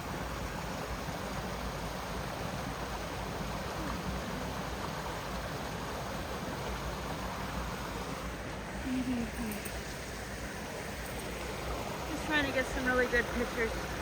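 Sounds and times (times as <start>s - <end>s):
waterfall and creek rushing: 0.0s - 14.0s.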